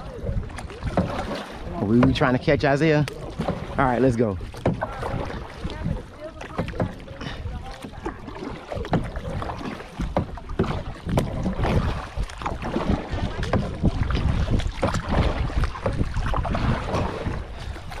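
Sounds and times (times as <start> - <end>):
kayak paddles splashing in water: 0.0 - 18.0
wind rumbling on microphone: 0.0 - 18.0.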